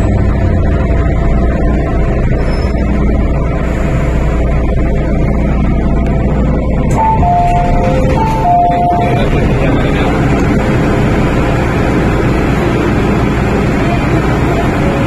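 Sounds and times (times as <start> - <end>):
train rumble and wheel noise: 0.0 - 15.0.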